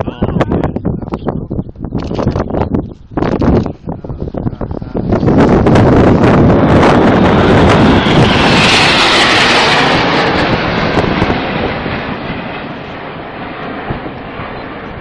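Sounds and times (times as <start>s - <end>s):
jet engines passing overhead: 0.0s - 15.0s
rushing jet whine: 2.3s - 15.0s.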